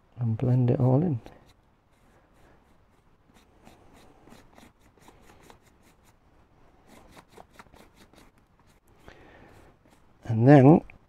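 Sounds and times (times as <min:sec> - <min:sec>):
paintbrush brushing on foam: 0:00.6 - 0:10.5.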